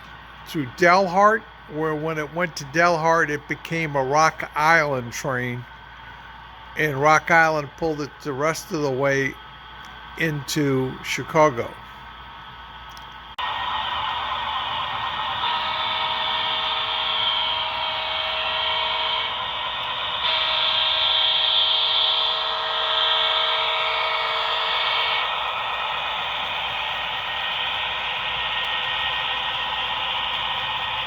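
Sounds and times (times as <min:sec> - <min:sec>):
model train running: 0:00.0 - 0:12.0, 0:12.9 - 0:31.0.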